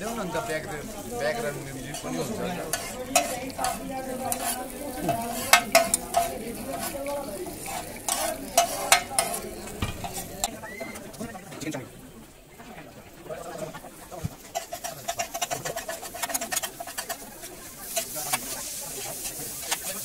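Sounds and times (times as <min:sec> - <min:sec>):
metal spatula scraping griddle: 0:00.0 - 0:10.6, 0:14.4 - 0:20.0
meat frying sizzle: 0:00.0 - 0:11.7, 0:13.2 - 0:20.0.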